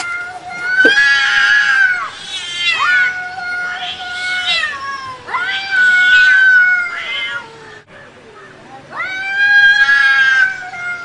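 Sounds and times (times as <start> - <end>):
cats yowling: 0.0 - 11.0.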